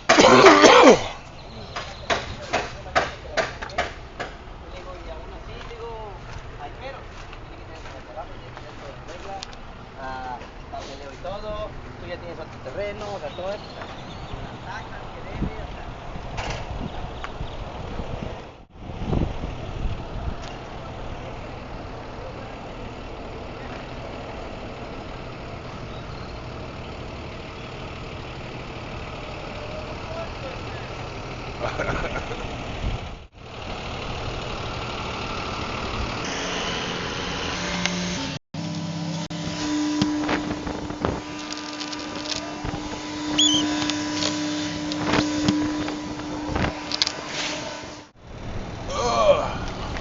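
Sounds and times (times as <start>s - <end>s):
truck engine humming: 0.0s - 50.0s.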